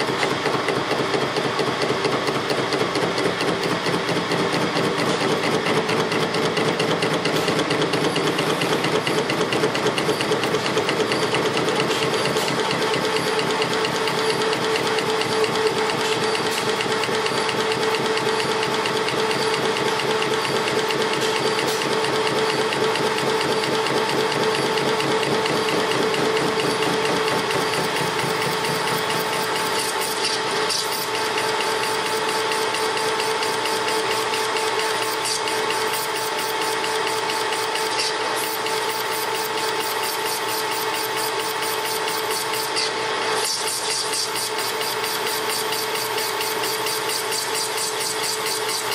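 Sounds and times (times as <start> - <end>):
metal lathe cutting: 0.0 - 48.9.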